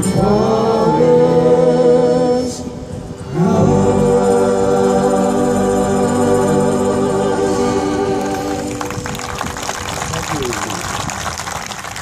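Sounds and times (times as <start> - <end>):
band holding sustained chord: 0.0 - 10.0.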